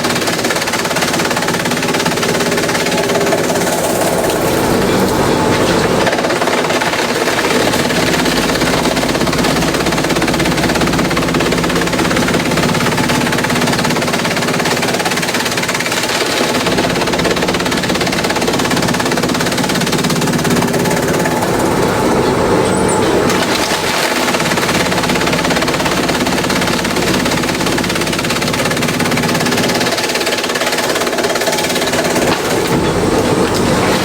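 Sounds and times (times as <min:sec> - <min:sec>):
bamboo shredding rattle: 0:00.0 - 0:22.0, 0:23.2 - 0:34.0
shredder motor drone: 0:00.0 - 0:34.0.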